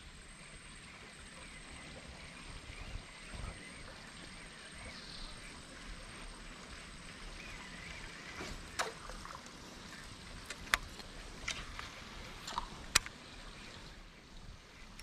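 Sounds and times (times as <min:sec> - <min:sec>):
water lapping against boat hull: 0:01.7 - 0:15.0.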